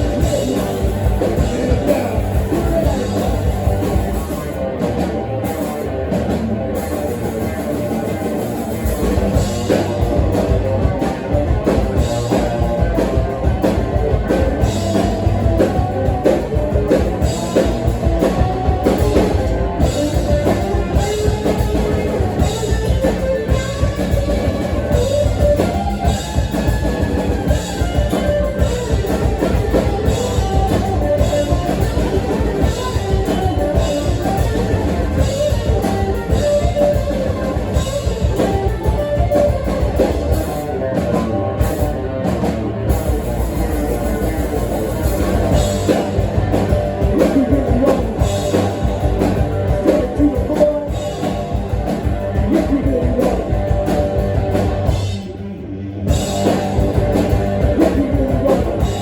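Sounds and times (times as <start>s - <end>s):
drum kit beat: 0.0s - 55.4s, 56.1s - 59.0s
live rock band playing: 0.0s - 59.0s.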